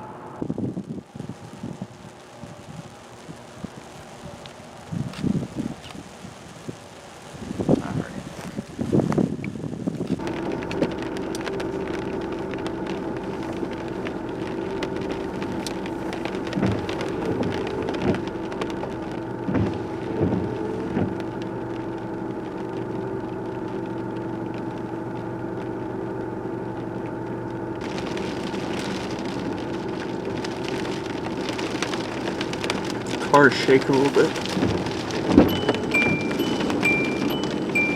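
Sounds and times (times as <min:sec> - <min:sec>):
car interior hum: 0:00.0 - 0:37.9
rain pattering on car: 0:00.0 - 0:37.9.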